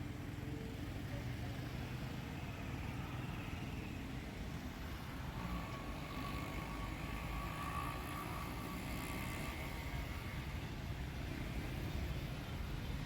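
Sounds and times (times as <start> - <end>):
faint engine whine: 0.0 - 13.0.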